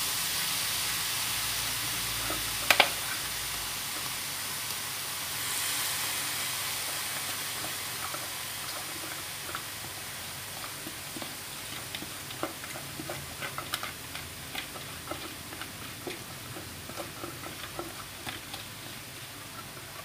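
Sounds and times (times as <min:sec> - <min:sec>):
onion sizzling in oil: 0:00.0 - 0:20.0.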